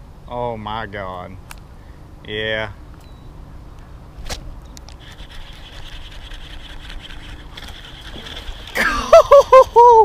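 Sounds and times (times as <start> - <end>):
faint high hum: 0.0 - 10.0.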